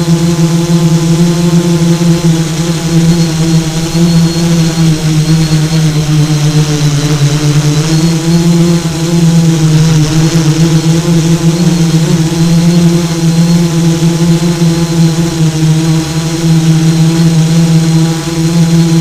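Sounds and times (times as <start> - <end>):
model aircraft motors buzzing: 0.0 - 19.0.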